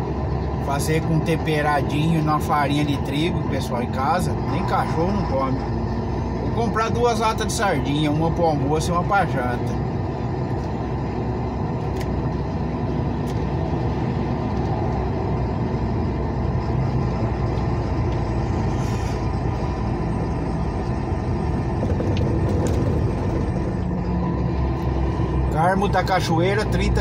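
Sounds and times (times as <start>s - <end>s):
engine and tyre noise in cab: 0.0s - 27.0s.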